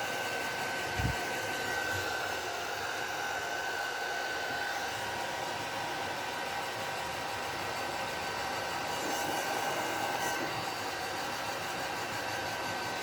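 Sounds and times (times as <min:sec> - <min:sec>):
heat gun fan whining: 0:00.0 - 0:13.0.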